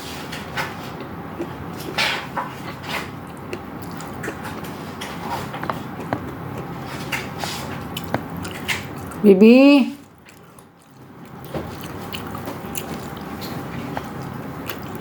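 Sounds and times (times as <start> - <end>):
person chewing and smacking: 0.6 - 9.3, 10.0 - 15.0.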